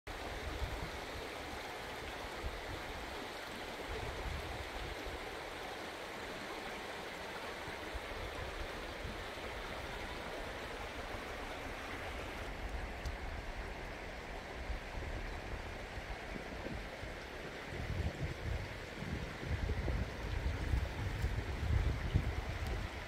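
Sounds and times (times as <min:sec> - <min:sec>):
river babbling over stones: 0:00.1 - 0:23.0.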